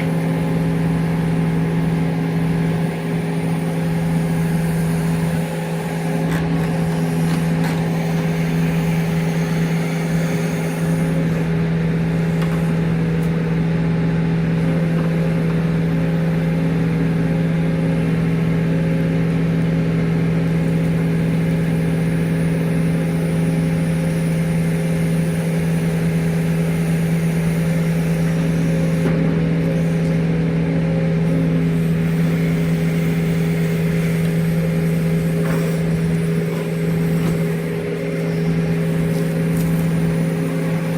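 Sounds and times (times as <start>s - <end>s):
engine humming steadily: 0.0s - 40.9s.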